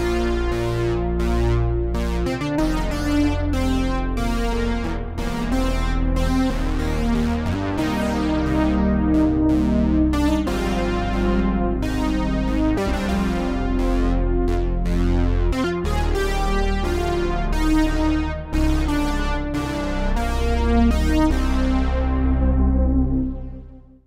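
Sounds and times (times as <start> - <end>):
synthesizer chords over deep bass: 0.0 - 24.0.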